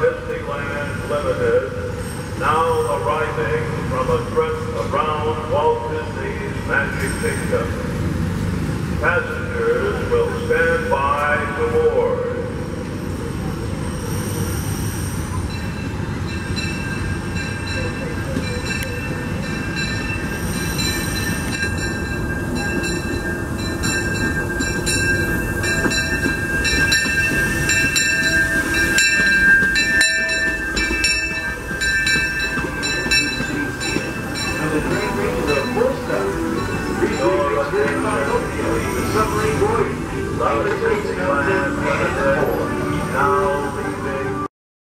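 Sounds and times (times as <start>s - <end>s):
steam locomotive rumbling: 0.0s - 44.5s.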